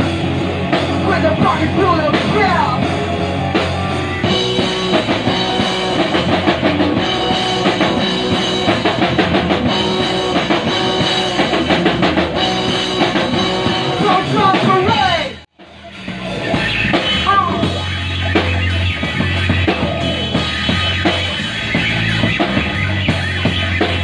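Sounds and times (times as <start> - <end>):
electric guitar riff: 0.0 - 24.0
fast drum beat: 0.0 - 24.0.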